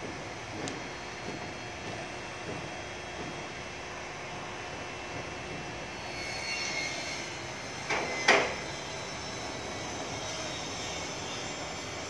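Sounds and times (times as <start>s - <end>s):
steady mechanical drone: 0.0s - 12.0s.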